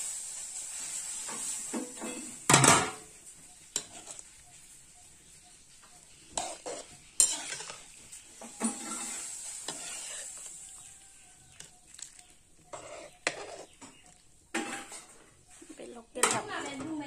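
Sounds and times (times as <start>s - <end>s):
faint sizzle: 0.0s - 17.0s
spatula scraping a wok: 0.0s - 17.0s.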